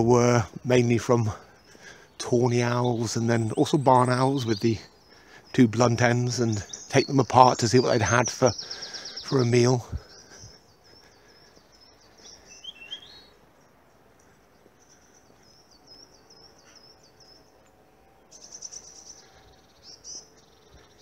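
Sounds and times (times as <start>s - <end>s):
songbirds singing faintly: 0.0s - 21.0s.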